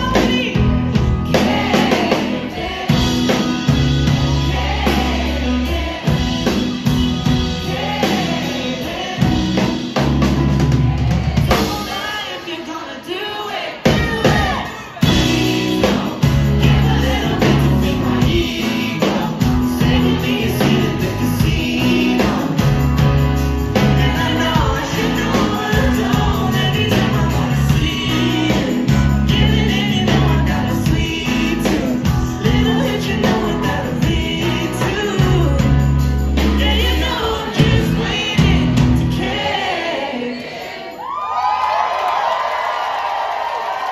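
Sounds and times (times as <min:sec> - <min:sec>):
rock band playing: 0:00.0 - 0:13.0, 0:13.7 - 0:40.0
sung vocals: 0:00.0 - 0:41.3.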